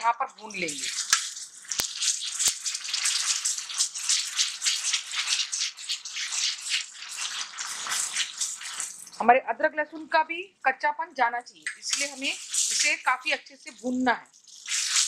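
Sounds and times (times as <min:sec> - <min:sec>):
onions sizzling in oil: 0:00.0 - 0:09.2, 0:11.6 - 0:15.0.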